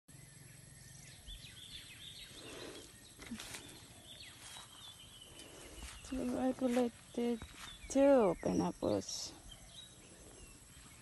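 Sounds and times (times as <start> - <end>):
birds chirping: 0.1 - 11.0.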